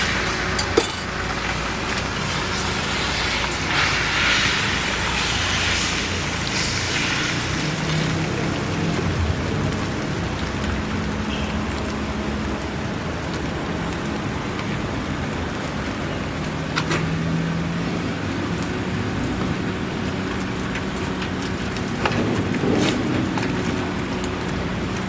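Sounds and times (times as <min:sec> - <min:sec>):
low engine-like hum: 0:04.8 - 0:25.0.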